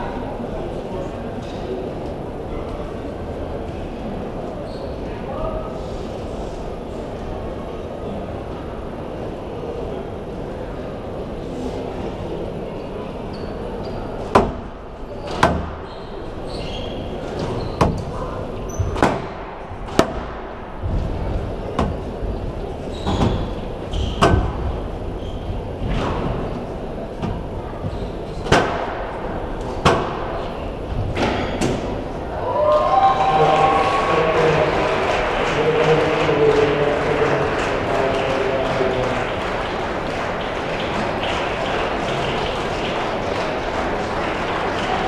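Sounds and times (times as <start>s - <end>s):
spectators' voices: 0.0s - 45.0s.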